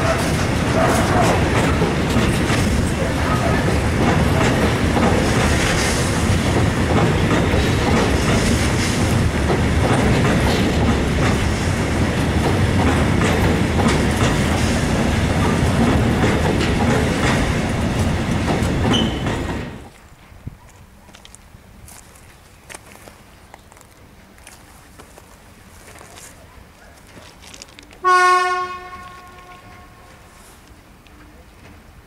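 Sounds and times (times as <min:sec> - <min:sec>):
freight train rumbling past: 0:00.0 - 0:20.4, 0:23.2 - 0:32.0
wheels clicking over rail joints: 0:00.0 - 0:20.4, 0:22.0 - 0:31.9.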